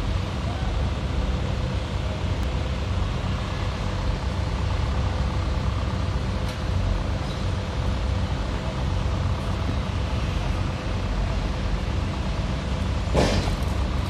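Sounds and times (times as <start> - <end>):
constant hum: 0.0 - 14.0
heavy machinery rumbling: 0.0 - 14.0.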